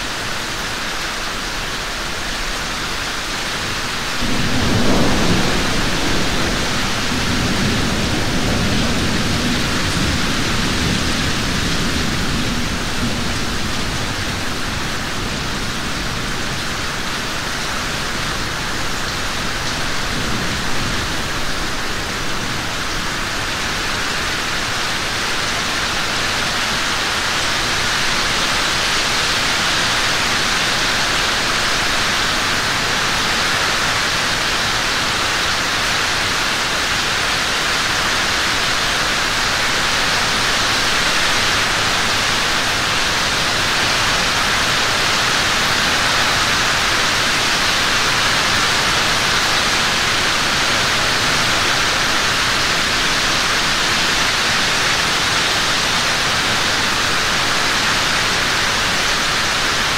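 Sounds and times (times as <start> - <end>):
steady dense rainfall: 0.0 - 59.9.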